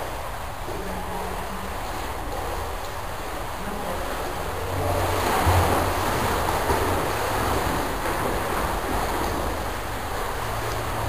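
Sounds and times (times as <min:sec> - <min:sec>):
swimmers splashing in pool: 0:00.0 - 0:11.0.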